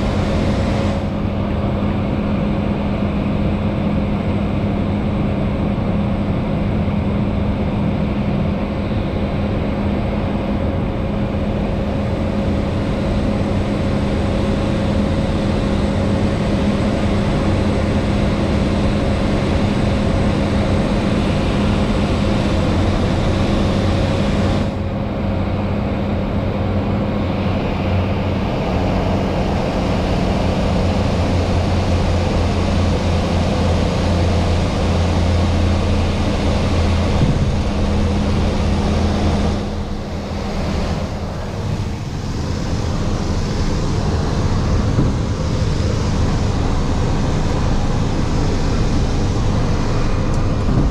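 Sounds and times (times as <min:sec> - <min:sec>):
propeller plane engines droning: 0:00.0 - 0:50.9.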